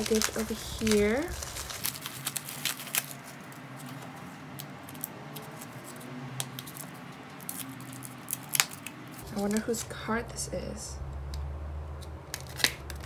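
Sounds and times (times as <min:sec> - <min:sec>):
hands handling cardboard package: 0:00.0 - 0:09.8, 0:12.3 - 0:13.0.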